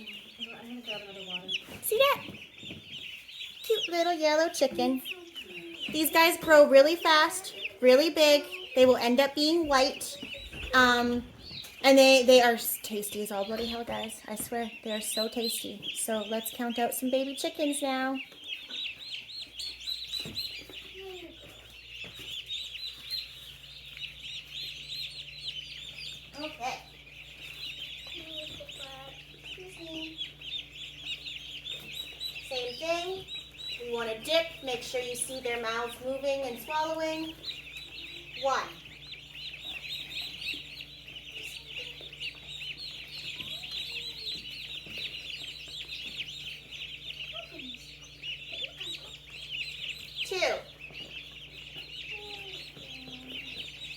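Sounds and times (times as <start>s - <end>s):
chicks peeping: 0.0s - 53.9s
steady low hum: 0.0s - 53.9s.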